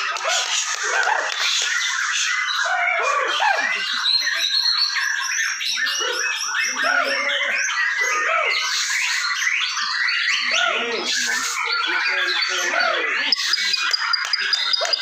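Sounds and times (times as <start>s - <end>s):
birds singing whistled phrases: 0.4s - 15.0s.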